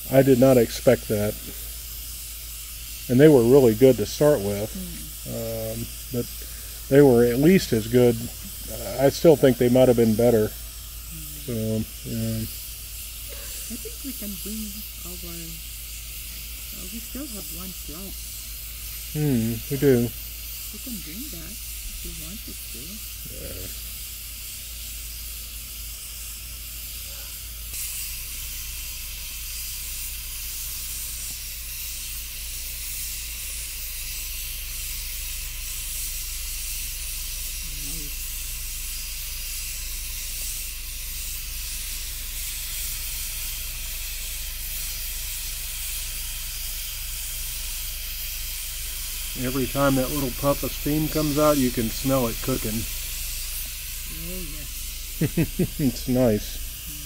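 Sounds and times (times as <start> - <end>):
pressure cooker steam hissing: 0.0 - 57.0.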